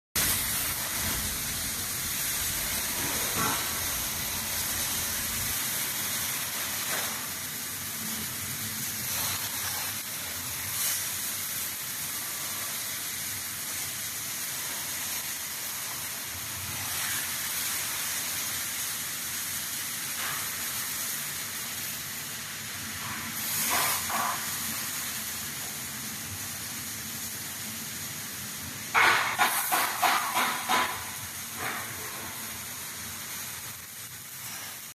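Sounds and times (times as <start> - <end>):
welding arc hissing: 0.2 - 34.9.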